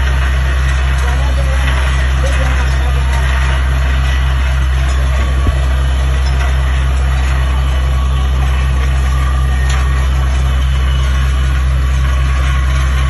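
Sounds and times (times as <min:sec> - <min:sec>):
heavy engine drone: 0:00.0 - 0:13.0.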